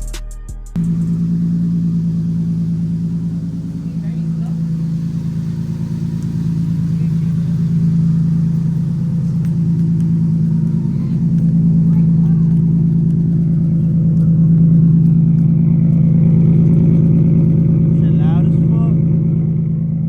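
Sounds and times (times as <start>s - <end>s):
car engine exhaust drone: 0.8s - 20.0s.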